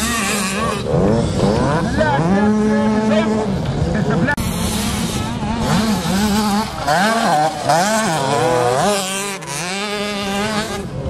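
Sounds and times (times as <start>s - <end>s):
two-stroke minibike engines revving: 0.0s - 11.0s.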